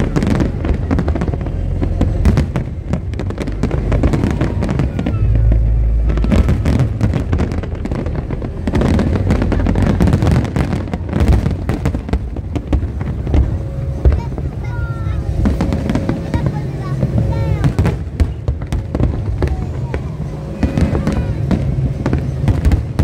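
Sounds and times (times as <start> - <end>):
deep rumble: 0.0 - 23.0
firework bangs and crackling: 0.0 - 23.0.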